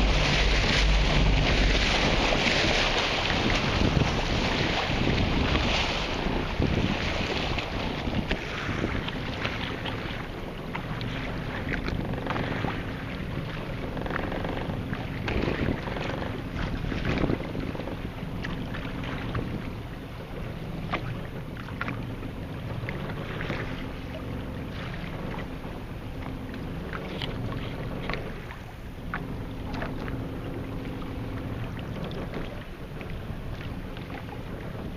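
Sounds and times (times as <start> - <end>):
water splashing against boat hull: 0.0 - 34.9
wind buffeting microphone: 0.0 - 34.9.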